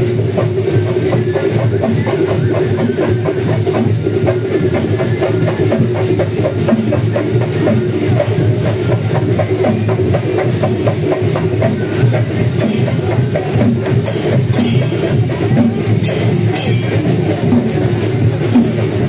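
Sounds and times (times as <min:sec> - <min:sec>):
cymbals ringing: 0:00.0 - 0:19.0
drums beaten in fast rhythm: 0:00.0 - 0:19.0.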